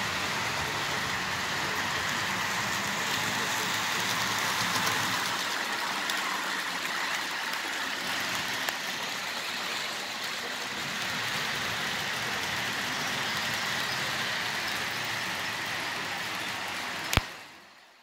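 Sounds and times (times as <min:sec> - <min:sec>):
model train whirring: 0:00.0 - 0:18.0.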